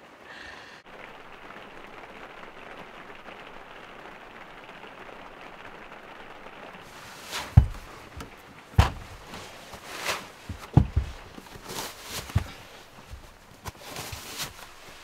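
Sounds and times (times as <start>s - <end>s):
rain on a camper roof: 0.0s - 15.0s.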